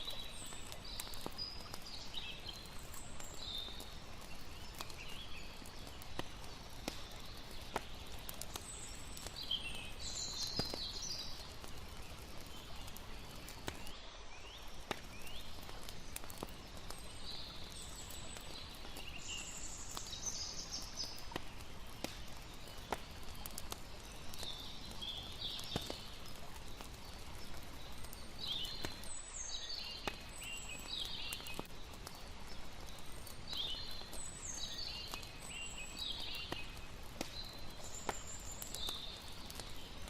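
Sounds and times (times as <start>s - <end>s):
campfire crackling: 0.0s - 40.0s.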